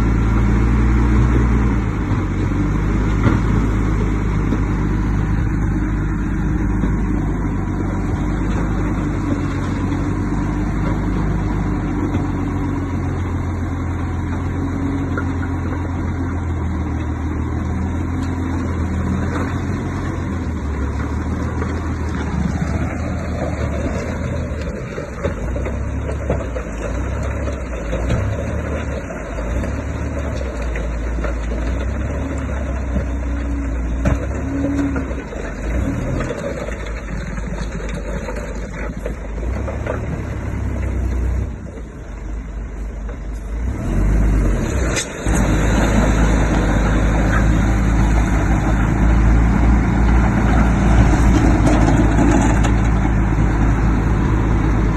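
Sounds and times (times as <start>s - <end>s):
heavy machinery diesel engines rumbling: 0.0s - 54.9s.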